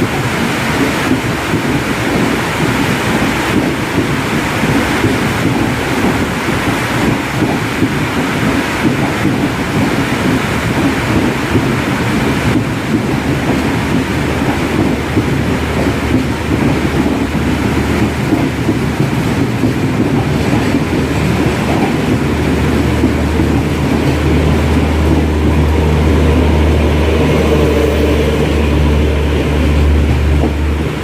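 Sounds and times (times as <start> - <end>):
diesel locomotive engine hum: 0.0 - 31.0
train running noise: 0.0 - 31.0.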